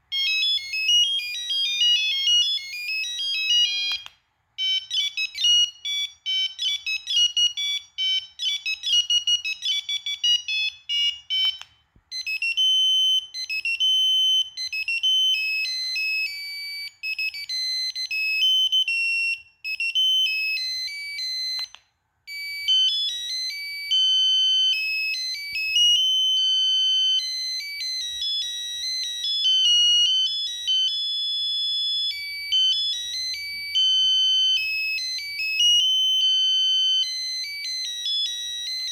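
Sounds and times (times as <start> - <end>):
phone ringtone melodies: 0.0 - 38.9.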